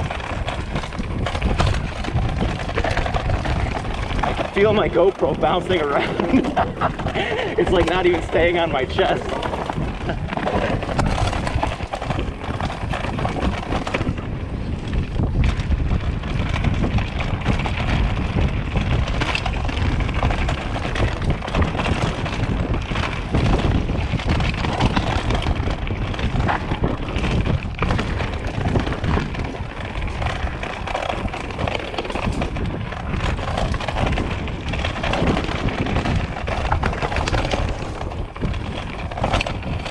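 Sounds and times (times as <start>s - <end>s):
bike rattling: 0.0s - 39.9s
bike tyres crunching on rocks: 0.0s - 39.9s
wind noise on microphone: 0.0s - 39.9s.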